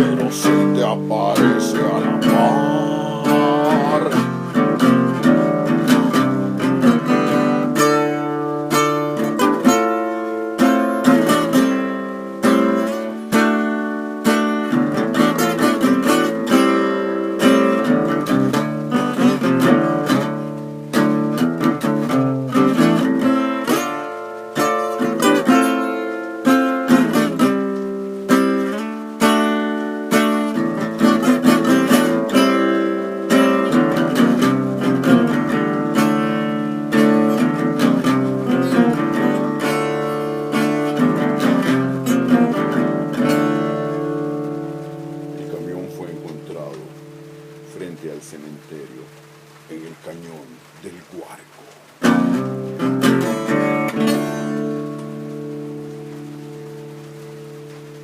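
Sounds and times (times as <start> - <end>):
acoustic guitar strumming and plucking: 0.0 - 58.0.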